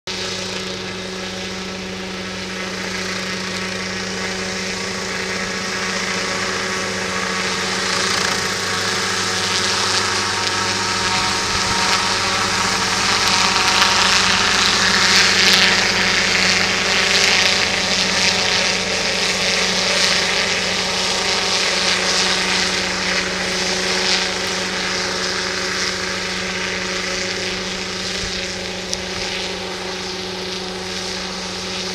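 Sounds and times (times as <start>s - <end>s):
model helicopter engine and rotor drone: 0.1s - 31.9s.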